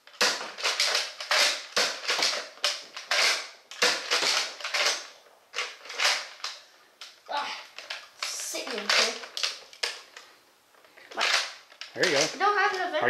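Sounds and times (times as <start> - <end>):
toy blaster plastic clacks: 0.1 - 7.2, 7.8 - 10.2, 11.1 - 12.9.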